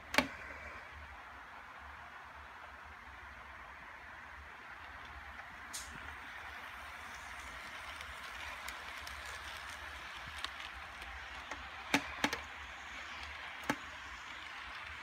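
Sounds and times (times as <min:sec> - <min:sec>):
model train whirring: 0:00.0 - 0:15.0.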